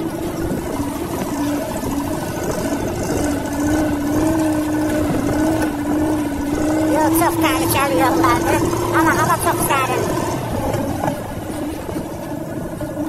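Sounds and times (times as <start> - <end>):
car engine hum: 0.0 - 13.0
tyres rumbling over dirt road: 0.0 - 13.0.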